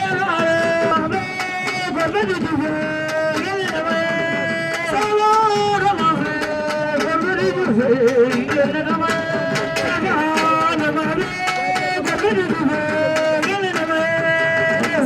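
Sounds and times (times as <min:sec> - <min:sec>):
repeated drum strokes: 0:00.0 - 0:15.0.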